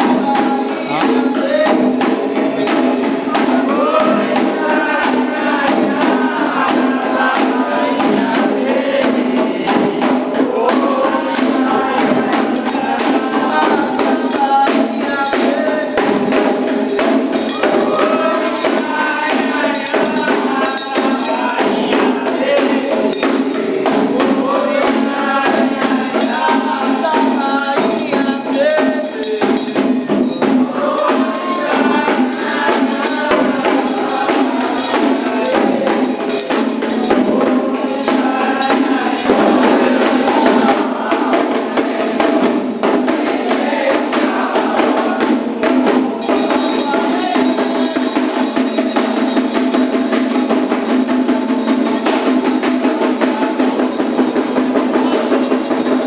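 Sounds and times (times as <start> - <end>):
call-and-response group singing: 0.0 - 56.0
fast dense percussion: 0.0 - 56.0
jingling shaker rattle: 0.0 - 56.0
struck metal bell: 0.0 - 56.0.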